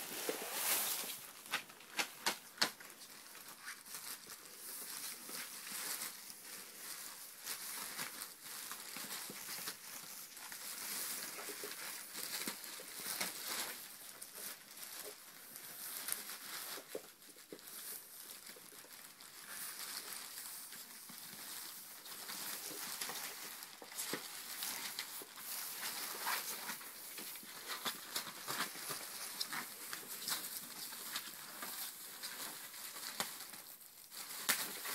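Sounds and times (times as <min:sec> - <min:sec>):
plastic sheet crinkling: 0:00.0 - 0:34.9.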